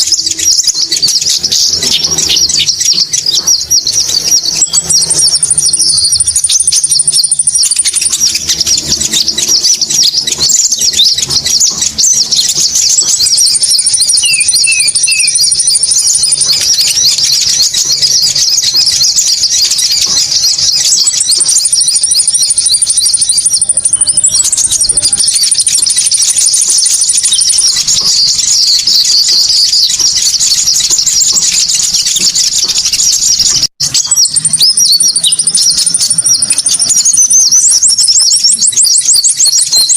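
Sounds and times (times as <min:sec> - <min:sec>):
rapid high-pitched bird chirps: 0:00.0 - 0:39.9.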